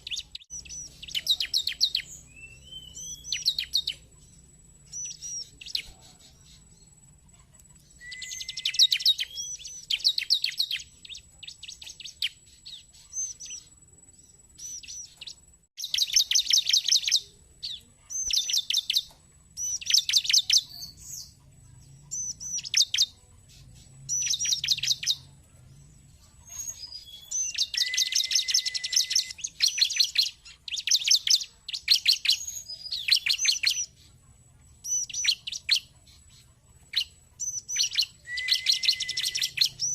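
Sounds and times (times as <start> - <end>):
bird chirping fast high calls: 0.0 - 13.8, 14.6 - 21.4, 22.0 - 25.4, 26.3 - 34.1, 34.8 - 39.9.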